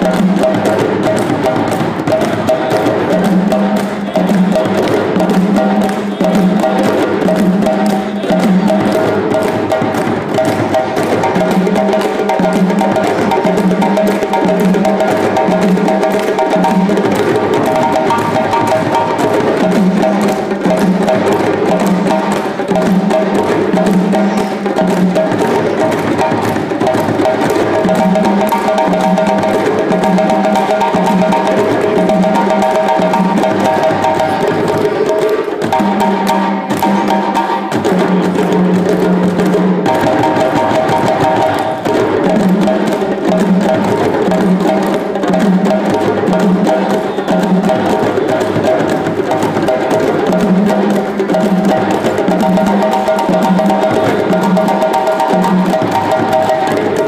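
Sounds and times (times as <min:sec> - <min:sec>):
hand drums: 0:00.0 - 0:57.0.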